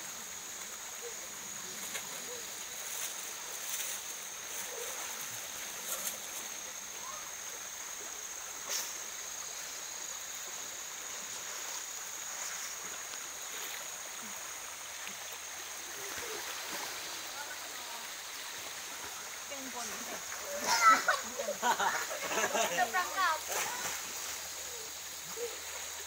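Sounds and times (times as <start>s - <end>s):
small river flowing: 0.0s - 26.0s.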